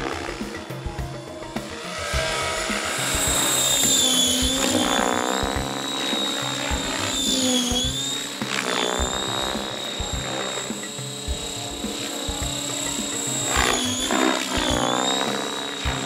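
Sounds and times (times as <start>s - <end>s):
model helicopter rotor whine: 0.0s - 16.0s
music with steady beat: 0.0s - 16.0s.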